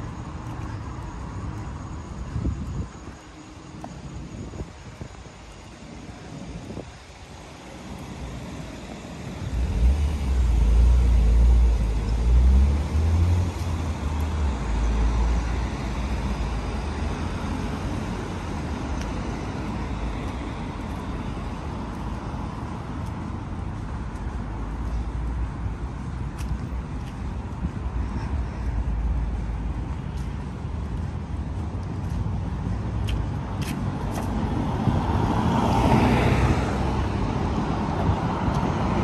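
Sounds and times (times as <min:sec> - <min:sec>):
road traffic hum: 0:00.0 - 0:39.0
vehicle passing with low rumble: 0:07.4 - 0:39.0.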